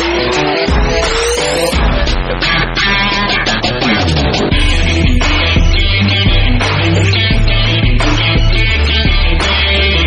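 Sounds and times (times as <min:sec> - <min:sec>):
rock music with distorted guitar: 0:00.0 - 0:10.0.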